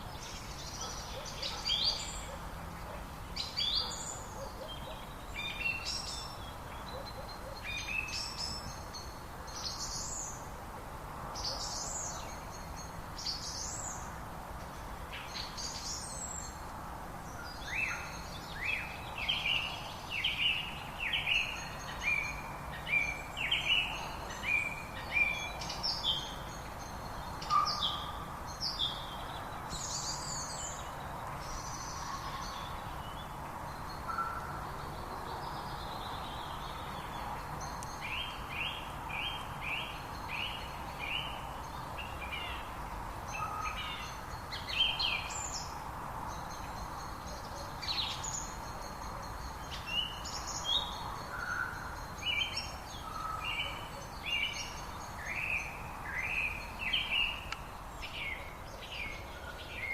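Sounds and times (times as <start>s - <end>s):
songbirds chirping and whistling: 0.0s - 10.5s, 11.4s - 16.7s, 17.3s - 59.9s
faint steady hiss: 0.0s - 59.9s.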